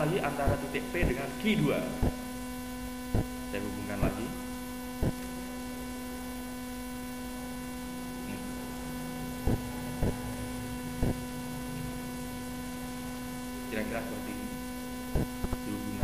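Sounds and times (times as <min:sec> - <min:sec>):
buzzy electrical mains hum: 0:00.0 - 0:16.0.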